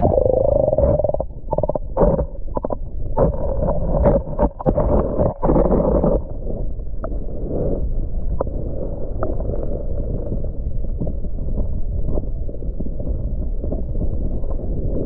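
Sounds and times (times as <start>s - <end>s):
underwater rumble of moving water: 0.0s - 15.0s.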